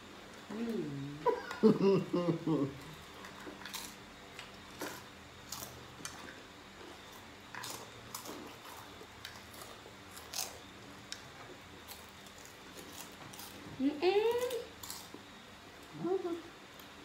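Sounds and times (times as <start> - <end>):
people chewing and crunching: 0.3 - 15.9.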